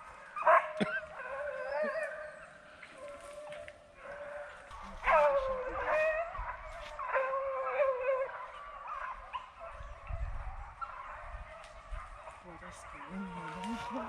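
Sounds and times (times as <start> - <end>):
hounds baying: 0.0 - 14.0.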